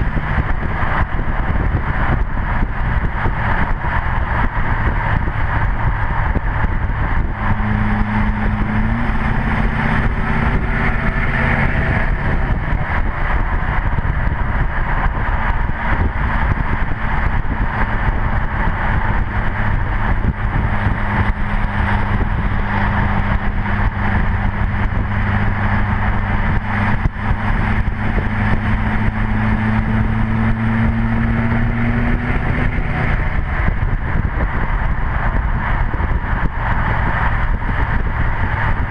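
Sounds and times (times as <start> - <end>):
diesel truck exhaust droning: 0.0 - 38.9.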